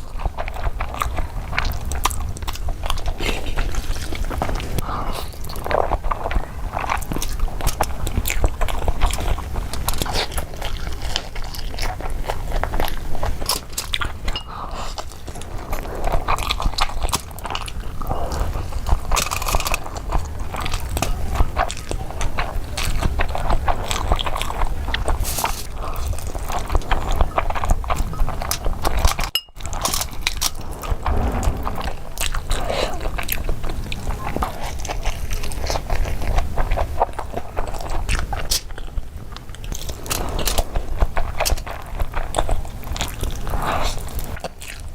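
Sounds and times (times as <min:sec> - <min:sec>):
biting chewing and crunching: 0:00.0 - 0:44.9.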